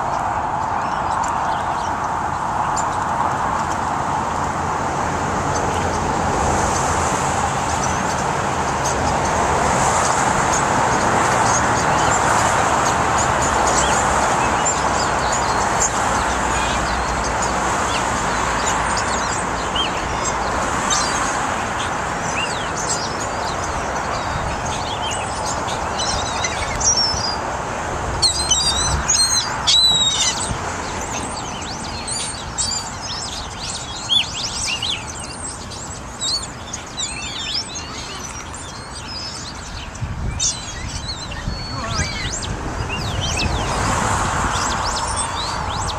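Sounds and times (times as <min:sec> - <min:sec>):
flock of birds chirping: 0:00.0 - 0:45.9.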